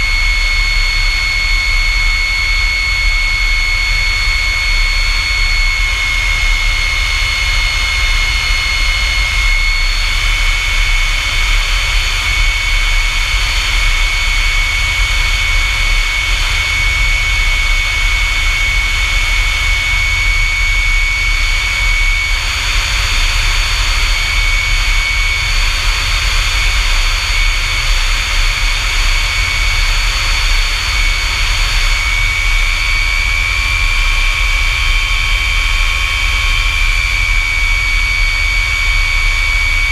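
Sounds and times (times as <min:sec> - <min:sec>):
jet engine whine and rumble: 0:00.0 - 0:39.9.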